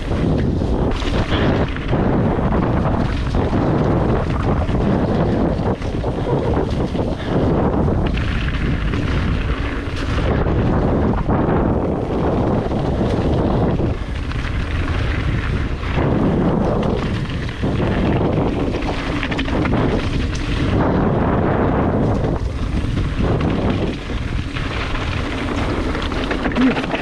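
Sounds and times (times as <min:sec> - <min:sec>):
bike knocks and rattles: 0:00.0 - 0:27.0
tyres rolling over trail: 0:00.0 - 0:27.0
wind buffeting microphone: 0:00.0 - 0:27.0.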